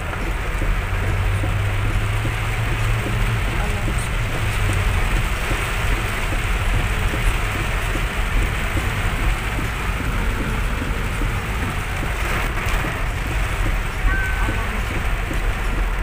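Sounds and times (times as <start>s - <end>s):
car rumbling on wet road: 0.0s - 16.0s
heavy rain on car windscreen: 0.0s - 16.0s.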